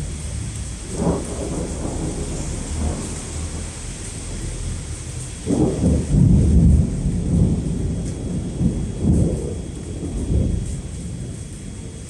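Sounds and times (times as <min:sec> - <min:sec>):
heavy rain hissing: 0:00.0 - 0:12.0
thunder rumbling: 0:00.0 - 0:12.0.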